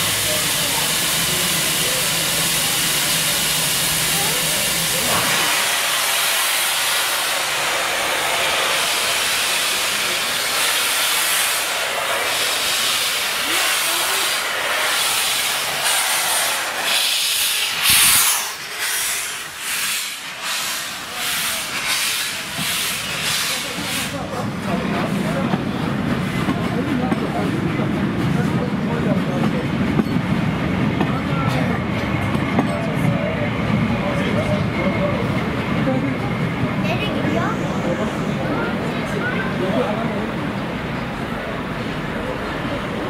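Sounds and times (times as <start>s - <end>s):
steam locomotive hissing steam: 0.0s - 43.0s.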